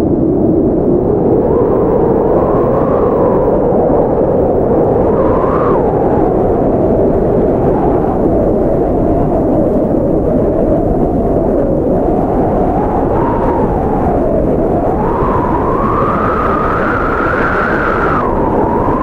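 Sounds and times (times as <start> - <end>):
blizzard wind rushing and howling: 0.0 - 19.0.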